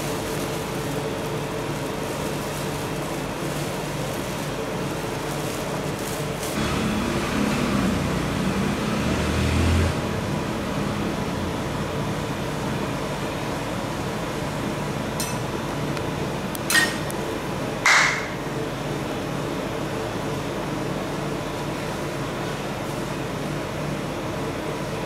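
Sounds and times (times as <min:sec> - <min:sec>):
refrigeration machine humming: 0:00.0 - 0:25.0.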